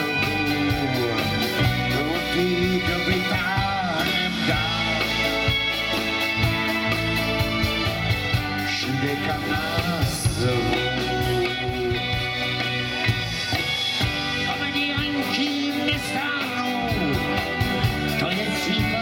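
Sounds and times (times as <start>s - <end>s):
person singing: 0.0s - 6.6s, 8.3s - 12.9s, 14.3s - 19.0s
strummed guitars: 0.0s - 19.0s.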